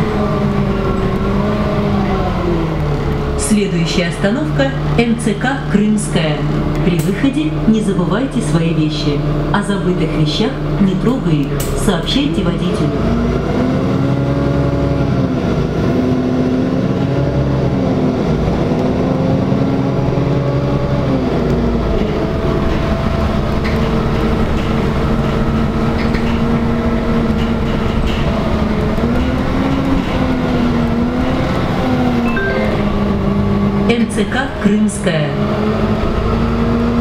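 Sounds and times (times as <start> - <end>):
bus engine hum: 0.0 - 37.0
road rumble: 0.0 - 37.0.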